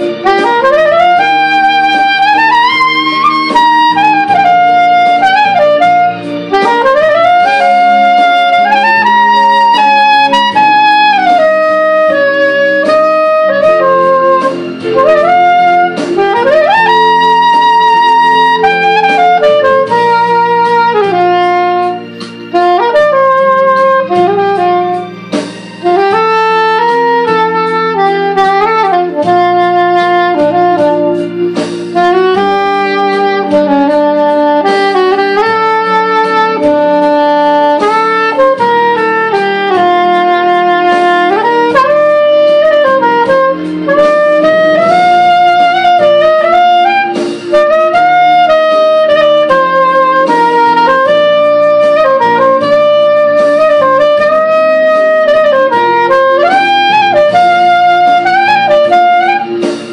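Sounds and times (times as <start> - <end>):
backing track accompaniment: 0.0 - 59.9
soprano saxophone melody: 0.0 - 59.9.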